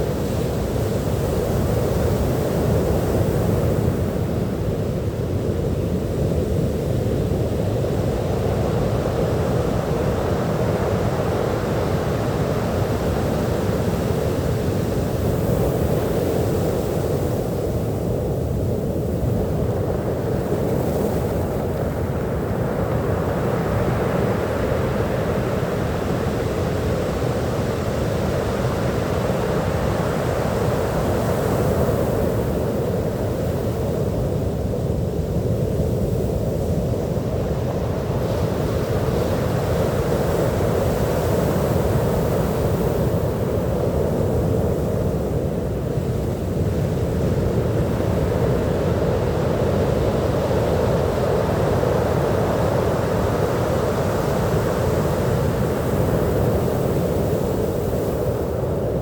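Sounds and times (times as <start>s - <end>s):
ocean waves breaking on beach: 9.8s - 59.0s.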